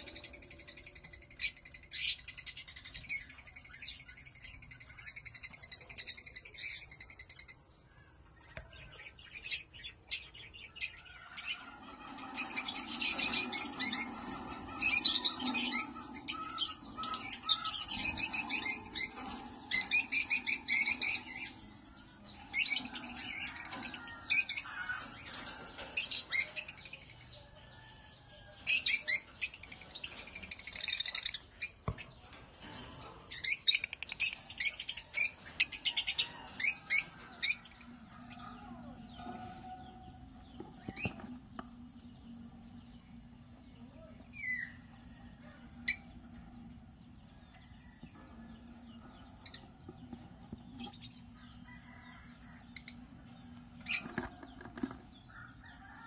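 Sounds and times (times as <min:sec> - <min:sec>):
birds chirping and squawking: 0:00.0 - 0:56.0.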